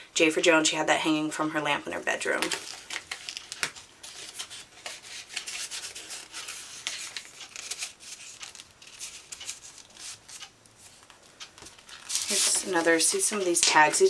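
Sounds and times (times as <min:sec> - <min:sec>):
paper and cardstock rustling: 0:02.3 - 0:14.0.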